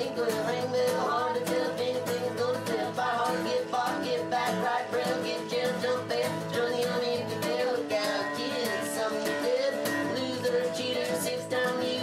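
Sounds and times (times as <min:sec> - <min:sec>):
song with singing over beat: 0:00.0 - 0:12.0.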